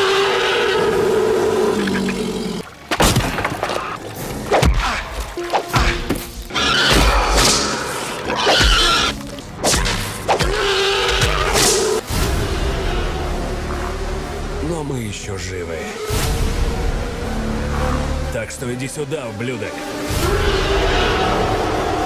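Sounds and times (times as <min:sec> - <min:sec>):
dramatic film score: 0:00.0 - 0:22.0.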